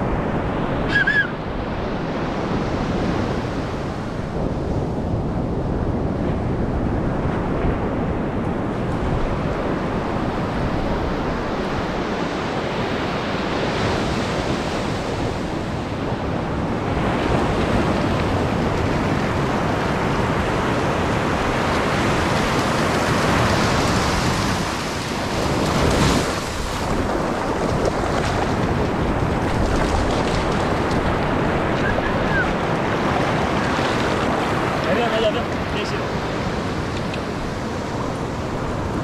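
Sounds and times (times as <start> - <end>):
surf washing onto beach: 0.0 - 39.0
wind buffeting microphone: 0.0 - 39.0.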